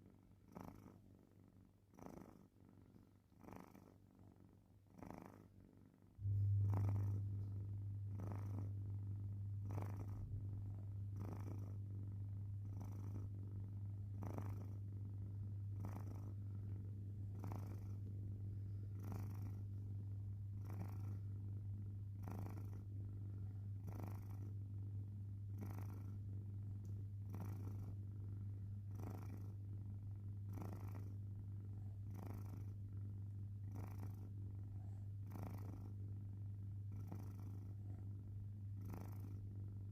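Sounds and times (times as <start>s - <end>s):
cat snoring: 0.0s - 39.9s.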